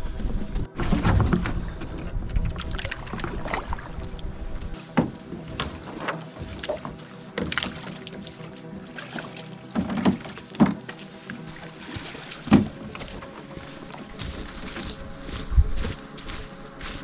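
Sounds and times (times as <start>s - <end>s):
background music sustained notes: 0.0s - 17.0s
paddle splashing through water: 0.0s - 17.0s.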